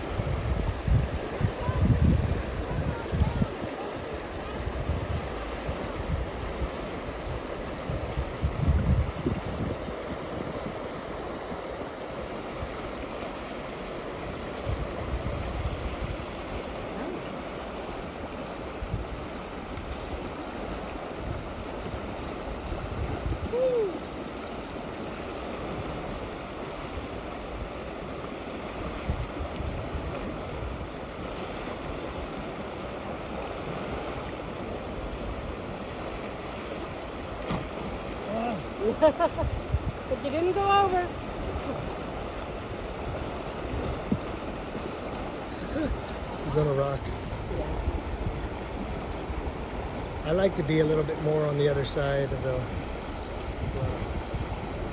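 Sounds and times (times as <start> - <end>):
river current rushing: 0.0 - 54.9.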